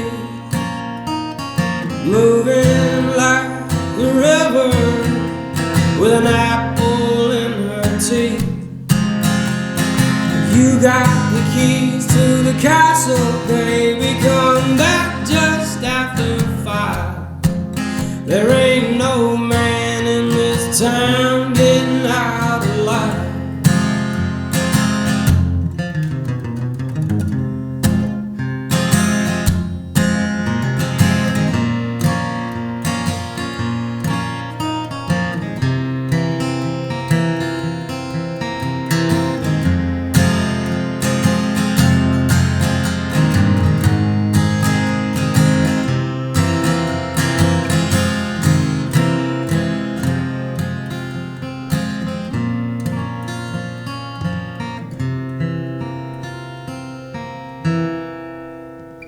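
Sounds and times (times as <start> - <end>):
strummed acoustic guitar: 0.0 - 59.0.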